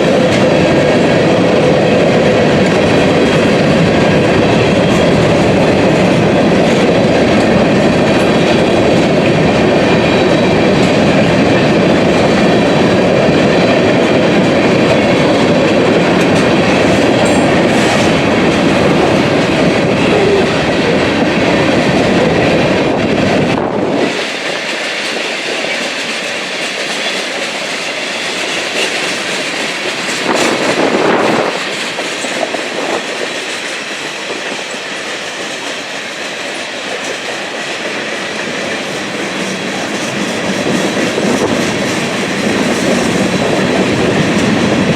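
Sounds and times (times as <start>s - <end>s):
rushing rail noise: 0.0s - 44.9s
train wheels clattering over rail joints: 0.0s - 44.9s.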